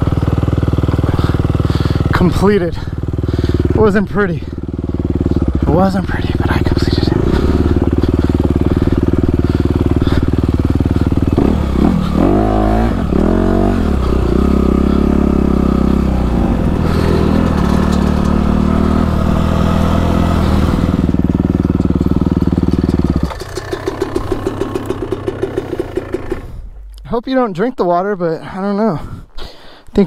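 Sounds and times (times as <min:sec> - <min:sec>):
dirt bike engine: 0:00.0 - 0:28.6.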